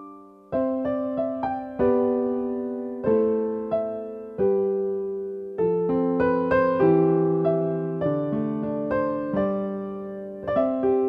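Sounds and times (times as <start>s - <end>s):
gentle electric piano music: 0.0s - 11.0s.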